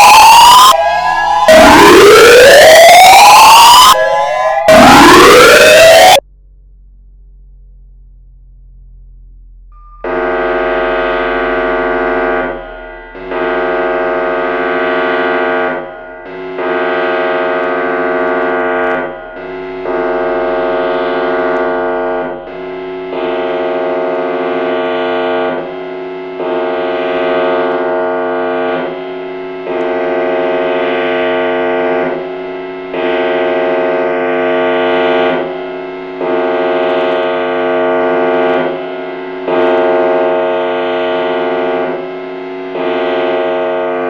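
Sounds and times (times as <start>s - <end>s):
rotating warning siren: 0.0s - 6.2s, 10.0s - 44.0s.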